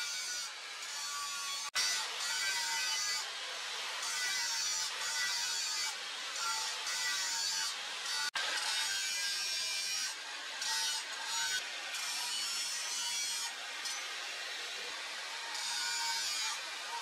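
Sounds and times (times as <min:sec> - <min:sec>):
angle grinder grinding steel: 0:00.0 - 0:17.0.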